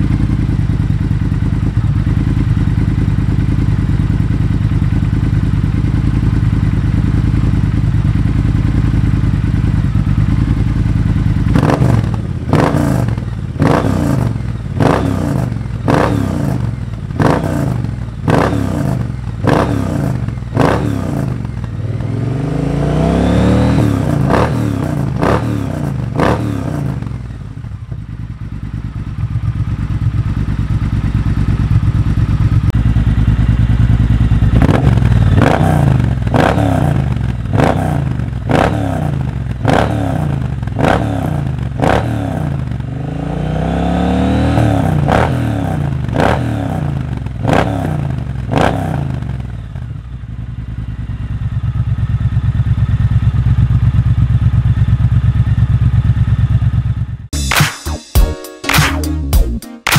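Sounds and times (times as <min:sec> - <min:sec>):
motorcycle engine idling and revving: 0:00.0 - 0:57.5.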